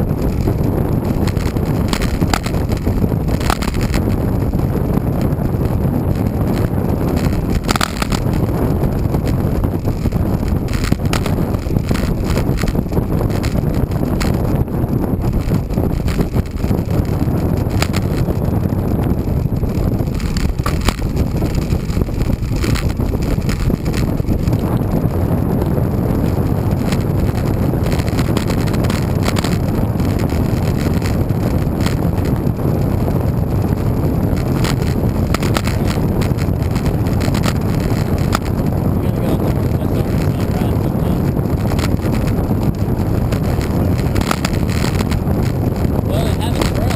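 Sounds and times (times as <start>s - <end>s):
faint ticks and knocks from bike: 0.0s - 46.9s
wind buffeting microphone: 0.0s - 46.9s.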